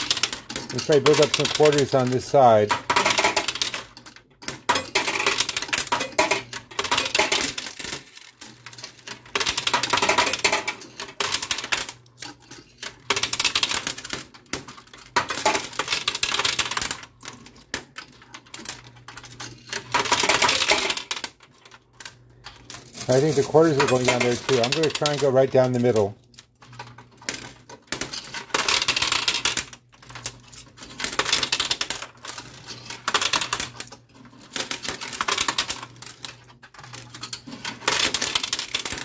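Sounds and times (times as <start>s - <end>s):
coins clinking in machine: 0.0s - 39.0s.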